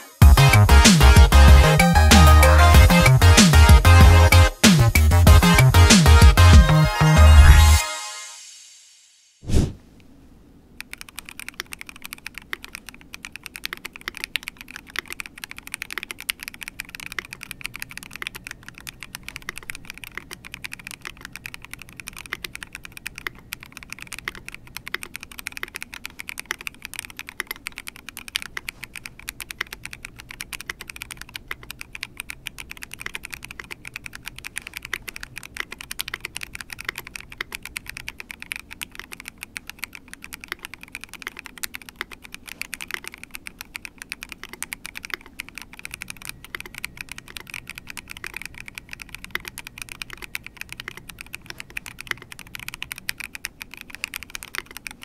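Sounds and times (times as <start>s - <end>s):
mechanical keyboard typing: 10.7s - 55.0s.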